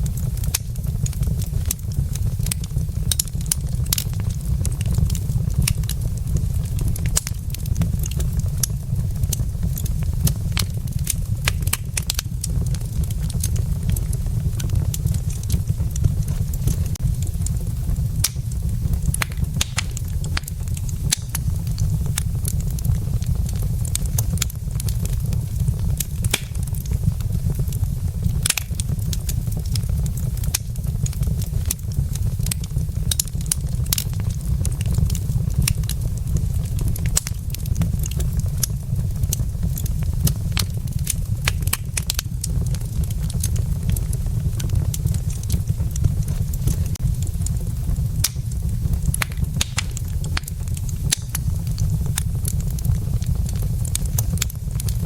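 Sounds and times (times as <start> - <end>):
logs crackling in fireplace: 0.0 - 55.0
low rumble of fire: 0.0 - 55.0.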